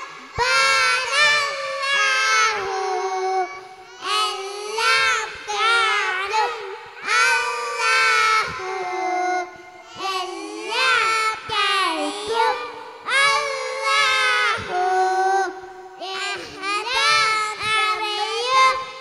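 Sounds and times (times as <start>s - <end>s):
children singing together: 0.0s - 19.0s.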